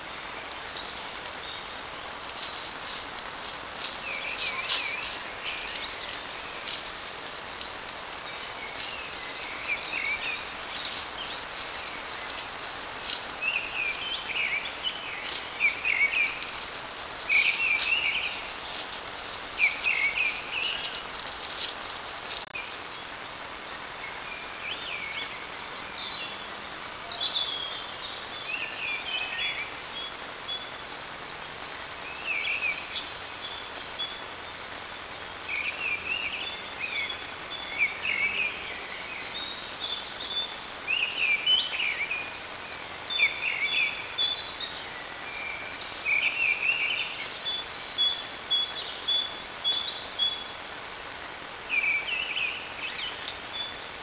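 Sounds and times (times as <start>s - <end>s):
steady hiss: 0.0s - 54.0s
woodland birds singing: 0.0s - 54.0s.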